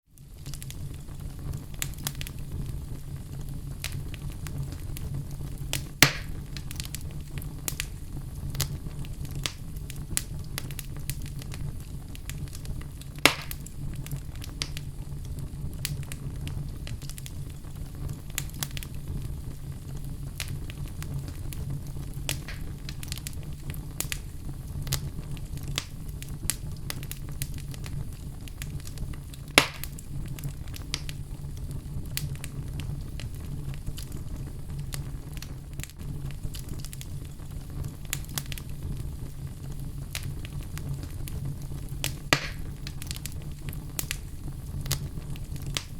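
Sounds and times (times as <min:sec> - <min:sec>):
fire crackling in fireplace: 0:00.0 - 0:45.9
loud fire pops: 0:00.2 - 0:45.9.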